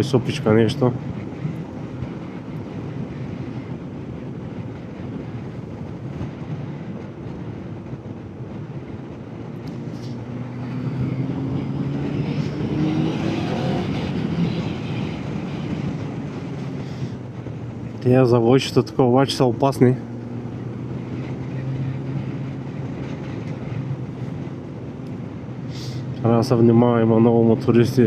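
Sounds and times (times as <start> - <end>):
wind noise on microphone: 0.0 - 27.6.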